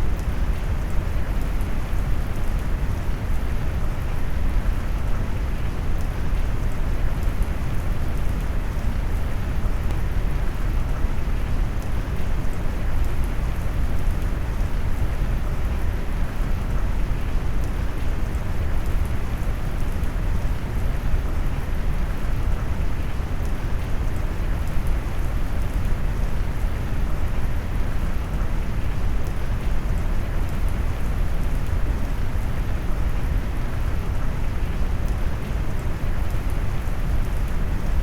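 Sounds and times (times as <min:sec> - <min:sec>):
rain patter: 0:00.0 - 0:38.0.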